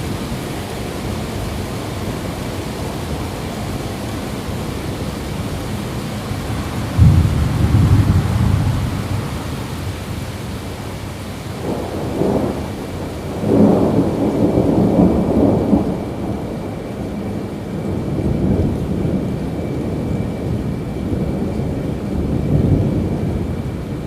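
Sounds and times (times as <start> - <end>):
steady rain: 0.0 - 24.0
rolling thunder: 4.2 - 24.0.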